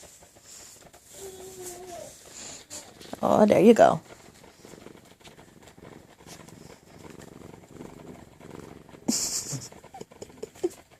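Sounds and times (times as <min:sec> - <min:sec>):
cat purring: 0:00.0 - 0:10.9.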